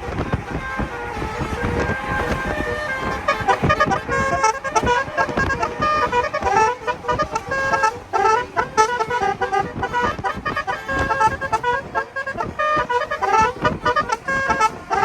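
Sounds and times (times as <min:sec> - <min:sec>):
musical car horns playing a tune: 0:00.0 - 0:15.0
wind and road noise rumble: 0:00.0 - 0:15.0.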